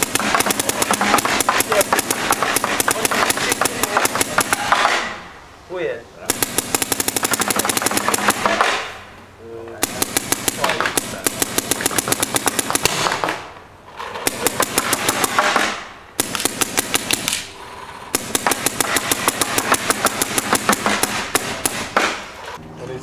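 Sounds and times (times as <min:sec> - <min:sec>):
paintball marker rapid firing: 0:00.0 - 0:04.8, 0:06.3 - 0:08.9, 0:09.8 - 0:13.5, 0:14.2 - 0:17.5, 0:18.1 - 0:22.3.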